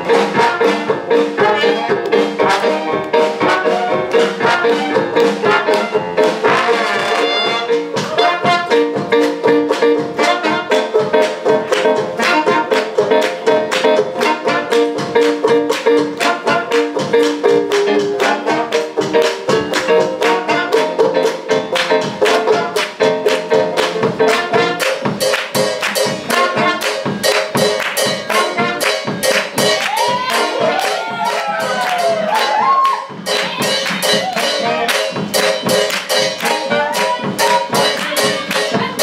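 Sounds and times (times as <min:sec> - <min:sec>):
jazz band playing swing: 0:00.0 - 0:39.0.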